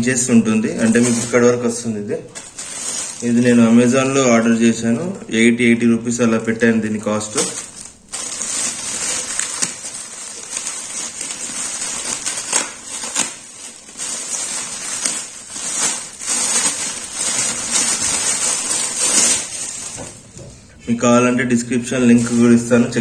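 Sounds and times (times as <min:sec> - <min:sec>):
plastic packaging crinkling: 0:00.0 - 0:20.7, 0:21.6 - 0:23.0.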